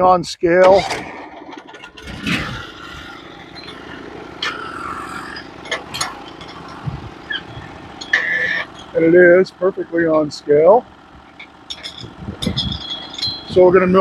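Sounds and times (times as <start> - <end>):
small engine idling: 0.8 - 14.0.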